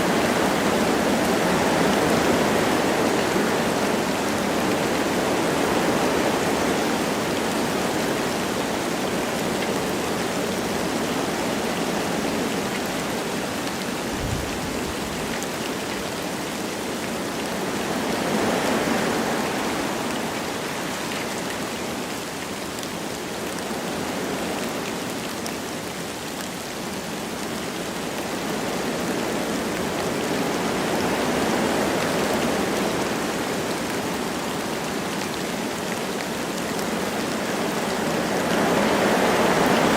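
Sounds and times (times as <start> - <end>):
light rain falling: 0.0 - 39.9
wind through trees: 0.0 - 39.9.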